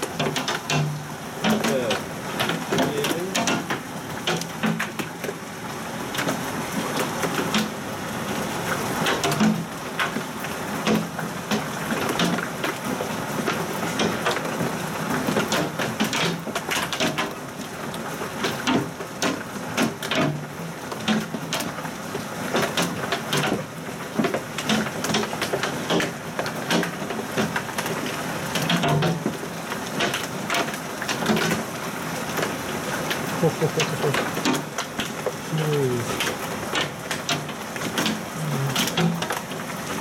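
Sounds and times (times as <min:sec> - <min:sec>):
hailstones striking surfaces: 0:00.0 - 0:07.8, 0:08.9 - 0:40.0
heavy rain roaring: 0:00.0 - 0:40.0.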